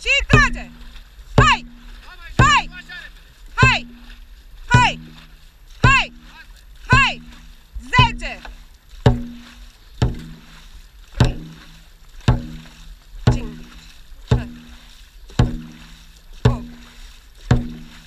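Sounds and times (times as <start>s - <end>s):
drum beating steadily: 0.0s - 18.0s
water rushing along hull: 0.0s - 18.0s.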